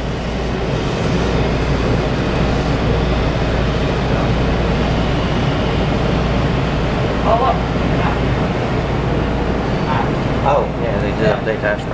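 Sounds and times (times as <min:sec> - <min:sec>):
train car rumble and hiss: 0:00.0 - 0:11.9.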